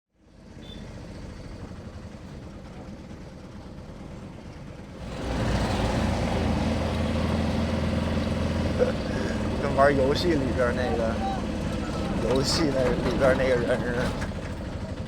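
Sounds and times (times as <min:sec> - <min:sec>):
road noise: 0:00.1 - 0:15.0
vehicle engine running: 0:00.2 - 0:15.0.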